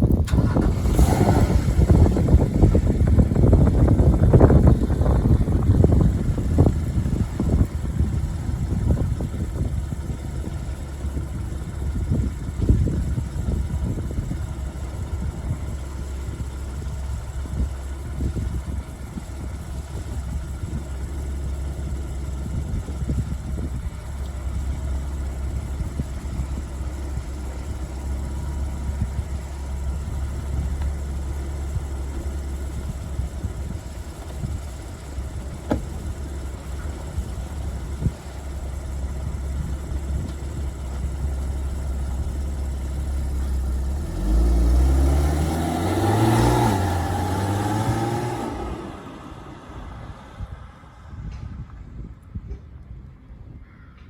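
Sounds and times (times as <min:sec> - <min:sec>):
car engine idling and revving: 0:00.0 - 0:52.5.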